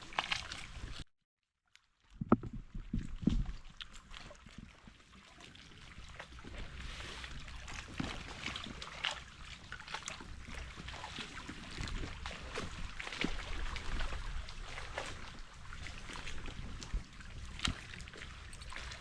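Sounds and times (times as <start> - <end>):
small splashes: 0.0 - 1.0, 1.8 - 19.0.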